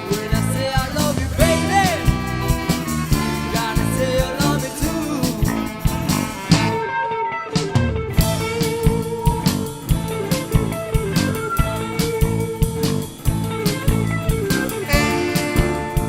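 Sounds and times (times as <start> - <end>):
blues band playing: 0.0 - 16.0
electric guitar: 0.0 - 16.0.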